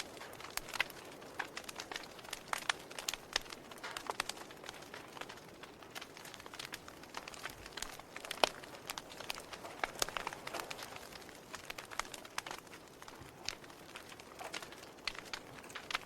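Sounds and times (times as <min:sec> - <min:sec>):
faint steady hiss: 0:00.0 - 0:16.0
wood fire crackling: 0:00.0 - 0:16.0.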